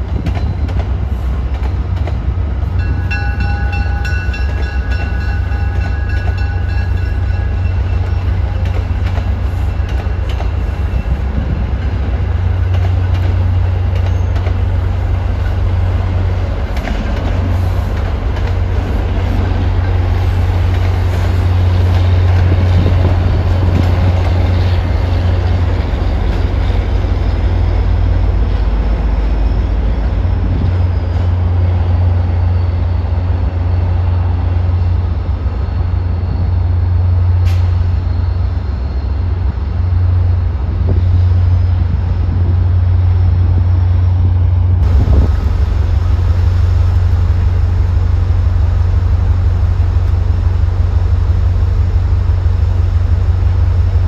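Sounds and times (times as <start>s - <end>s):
diesel locomotive rumble: 0.0s - 54.0s
train coaches rolling past: 0.0s - 54.0s.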